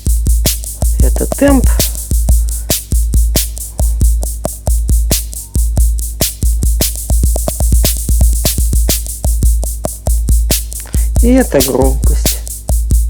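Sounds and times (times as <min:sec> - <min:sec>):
electronic bass drum thumps: 0:00.0 - 0:13.0
sharp hissing drum hits: 0:00.0 - 0:13.0.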